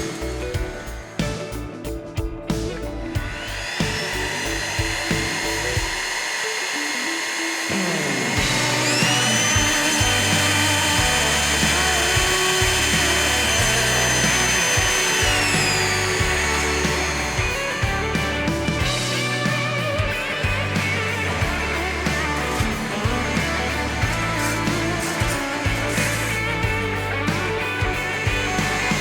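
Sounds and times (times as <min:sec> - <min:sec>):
stick vacuum cleaner motor whining: 0:03.2 - 0:29.0.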